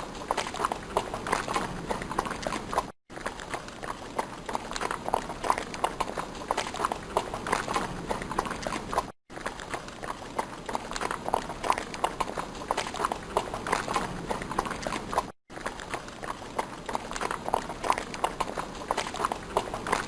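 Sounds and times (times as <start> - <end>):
horse hooves on hard ground: 0.0 - 20.0.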